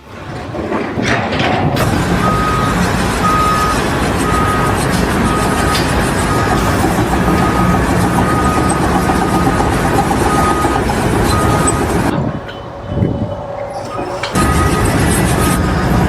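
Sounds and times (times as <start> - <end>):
loud mechanical noise: 0.0 - 16.0.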